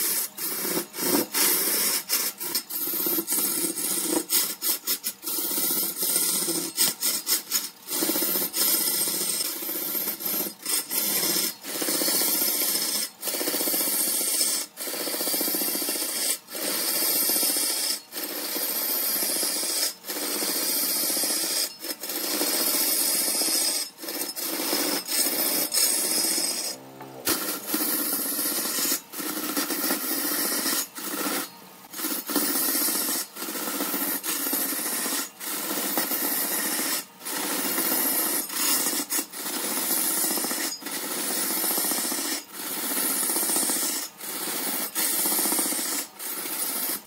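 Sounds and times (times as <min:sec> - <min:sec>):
lathe tool scraping wood: 0:00.0 - 0:14.7, 0:18.7 - 0:43.0.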